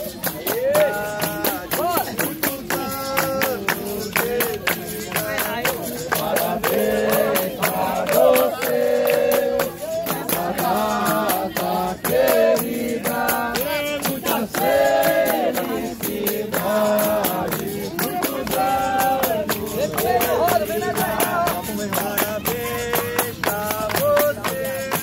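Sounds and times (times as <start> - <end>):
group singing call-and-response: 0.0 - 25.0
hand clapping: 0.0 - 25.0
tambourines: 0.0 - 25.0.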